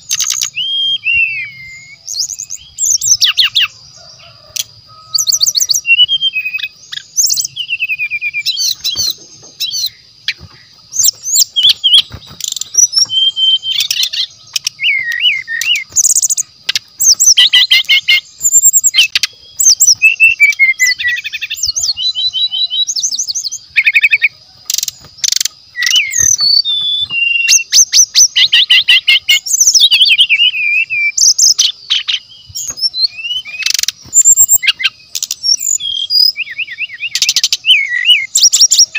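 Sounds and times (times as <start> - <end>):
songbird singing trills: 0.0 - 38.9
high-pitched insect drone: 1.2 - 36.3.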